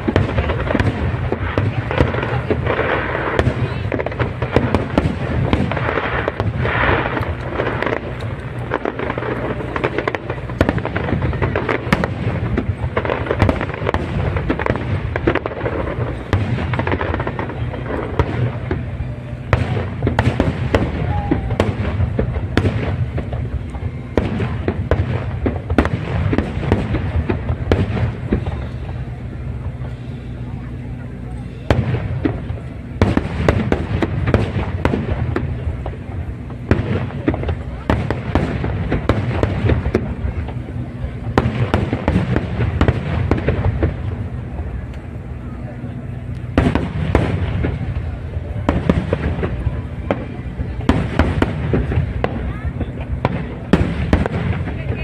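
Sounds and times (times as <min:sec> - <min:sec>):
fireworks bursts and crackle: 0:00.0 - 0:55.0
low rumble: 0:00.0 - 0:55.0.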